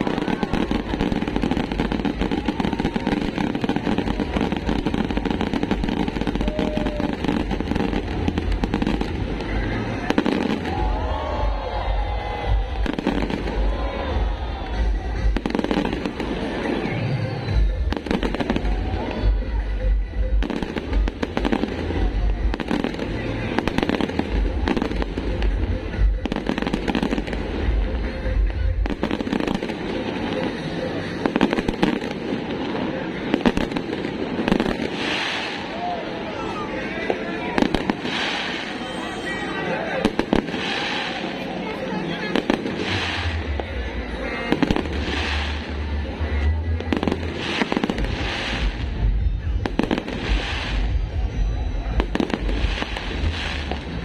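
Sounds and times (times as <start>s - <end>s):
fireworks crackling: 0.0s - 54.0s
fireworks low rumble: 0.0s - 54.0s.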